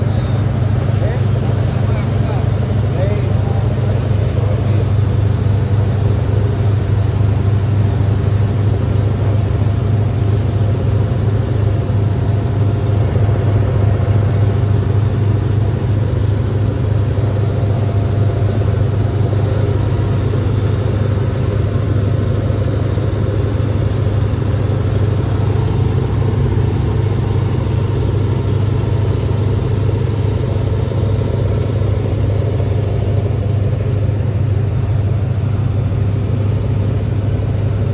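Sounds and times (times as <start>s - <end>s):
engine running steadily: 0.0s - 37.9s.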